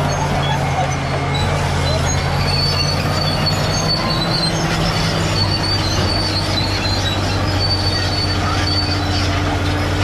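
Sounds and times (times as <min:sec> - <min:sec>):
high-pitched track squeals: 0:00.0 - 0:09.9
bulldozer diesel engine running: 0:00.0 - 0:10.0.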